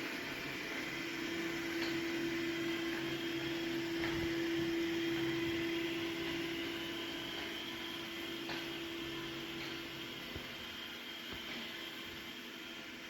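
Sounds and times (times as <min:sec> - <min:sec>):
robot vacuum motor hum: 0:00.0 - 0:13.0.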